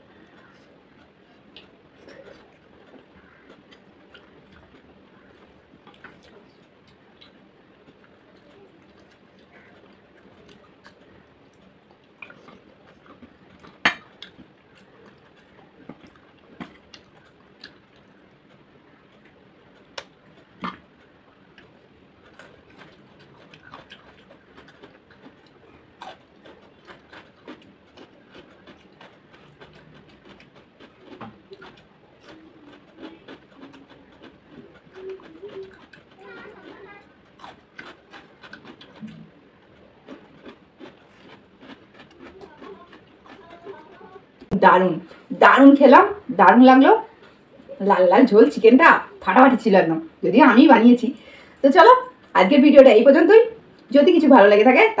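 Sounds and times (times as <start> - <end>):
chewing and mouth sounds: 0.0 - 45.3, 47.0 - 47.8.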